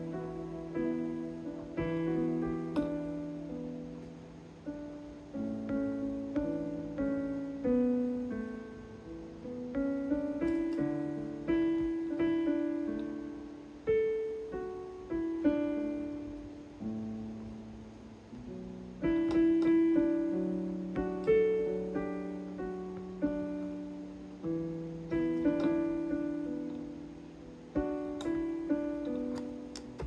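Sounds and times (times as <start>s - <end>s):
keyboard piano chords and melody: 0.0s - 30.0s.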